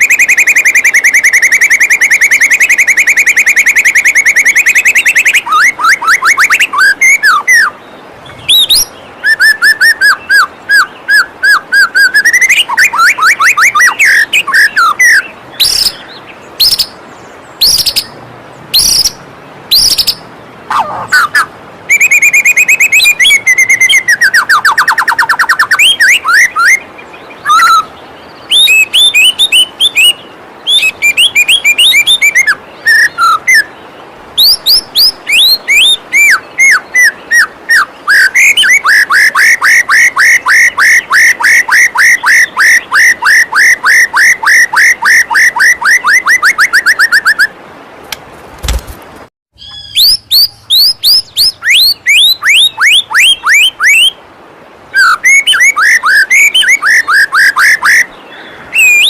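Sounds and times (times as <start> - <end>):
bird singing chirps and trills: 0.0 - 47.6, 49.5 - 59.0
faint waterfall rush: 0.0 - 49.3, 49.9 - 59.0.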